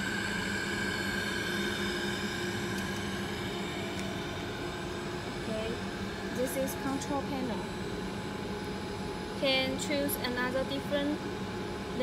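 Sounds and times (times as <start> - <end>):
constant machine tones: 0.0 - 12.0
machine humming and whirring: 0.0 - 12.0.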